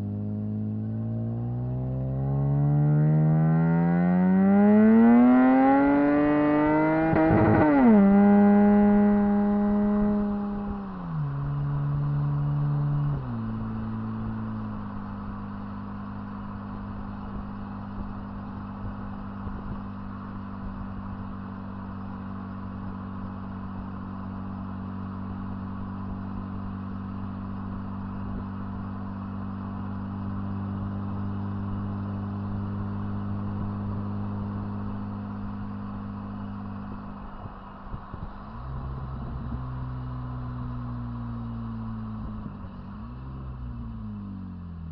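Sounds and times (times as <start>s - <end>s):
car engine droning inside car: 0.0s - 44.9s.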